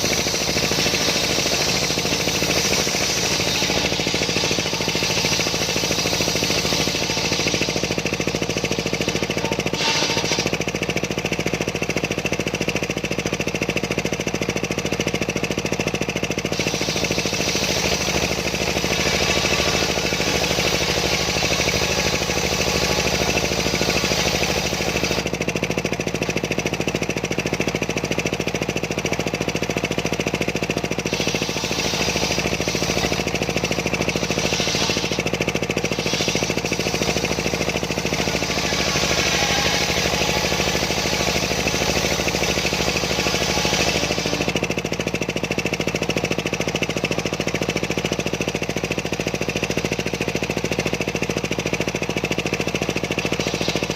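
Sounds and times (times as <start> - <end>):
circular sawmill cutting log: 0.0 - 53.9.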